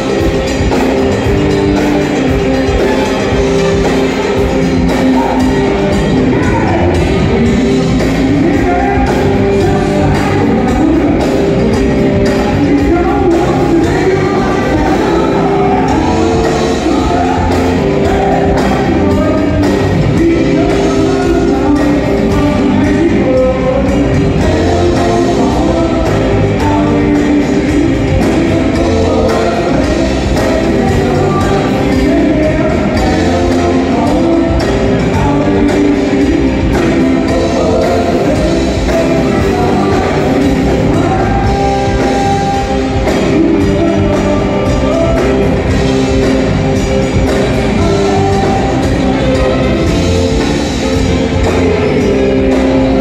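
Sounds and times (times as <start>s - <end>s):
drums: 0.0s - 53.0s
electric guitar: 0.0s - 53.0s
person singing: 0.0s - 53.0s
rock band playing: 0.0s - 53.0s.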